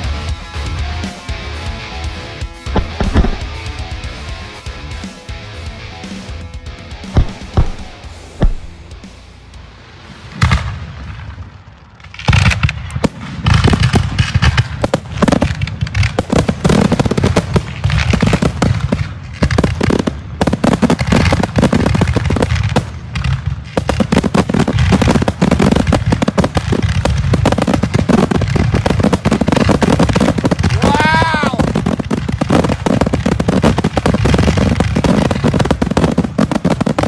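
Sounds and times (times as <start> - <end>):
fireworks booms and cracks: 0.0 - 37.0.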